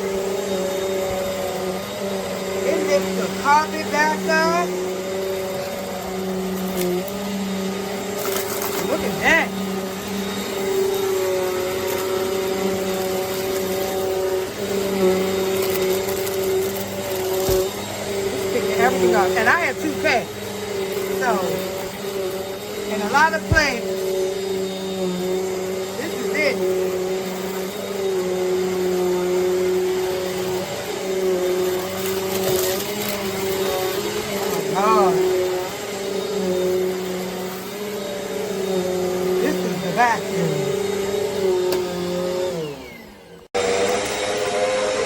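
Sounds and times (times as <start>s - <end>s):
vacuum cleaner motor whine: 0.0s - 45.0s.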